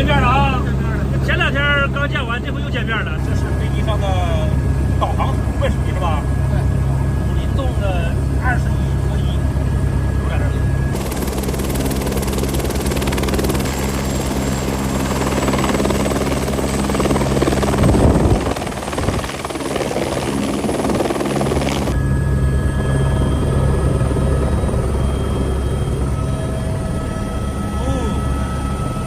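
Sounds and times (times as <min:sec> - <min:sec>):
helicopter engine and rotor: 0:00.0 - 0:29.0.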